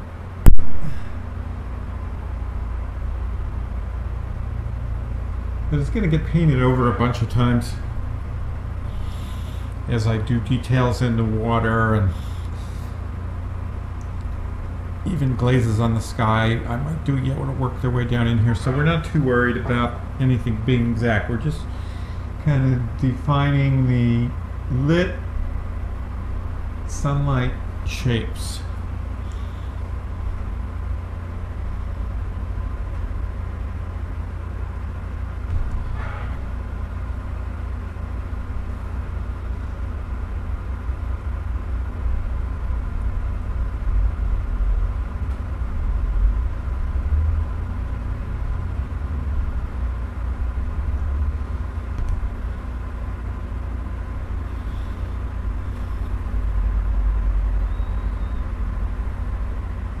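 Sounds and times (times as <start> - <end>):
faint steady hum: 0.0 - 60.0
low background rumble: 0.0 - 60.0.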